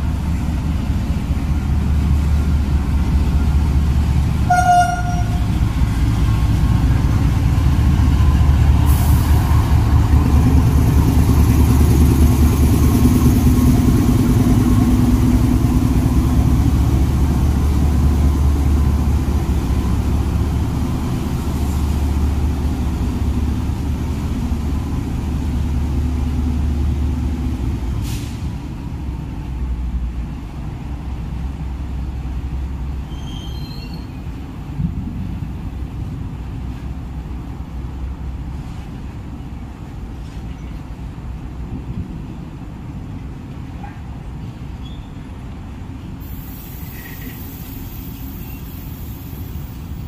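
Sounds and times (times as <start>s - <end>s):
deep locomotive engine drone: 0.0s - 50.0s
wagons rumbling on rails: 0.0s - 50.0s.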